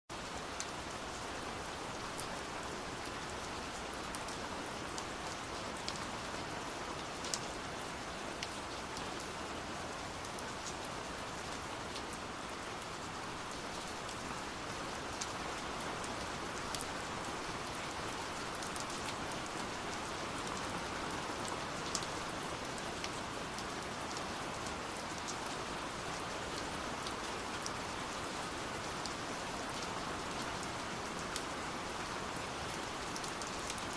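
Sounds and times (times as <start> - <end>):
steady rain hiss: 0.1 - 33.9.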